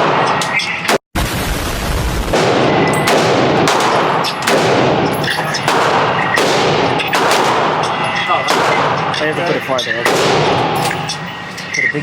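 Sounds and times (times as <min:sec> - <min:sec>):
gunshots with echo: 0:00.0 - 0:01.0, 0:02.2 - 0:11.0.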